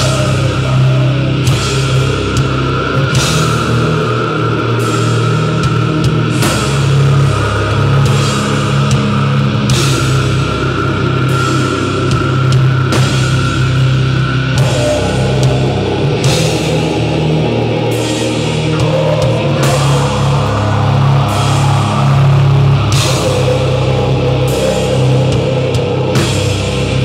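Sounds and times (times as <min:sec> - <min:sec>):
drums: 0:00.0 - 0:27.0
heavy guitar and bass chords: 0:00.0 - 0:27.0.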